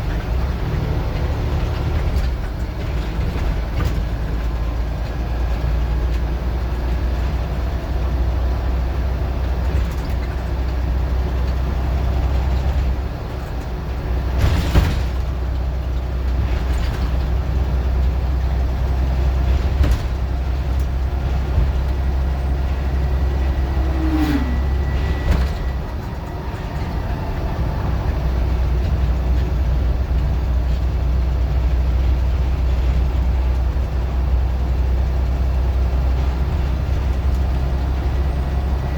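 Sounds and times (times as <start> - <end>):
bus engine droning: 0.0 - 38.9.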